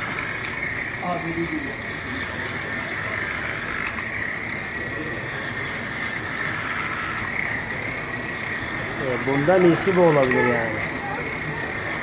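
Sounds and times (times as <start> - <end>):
electric meat cutter whining: 0.0 - 1.0, 1.7 - 12.0.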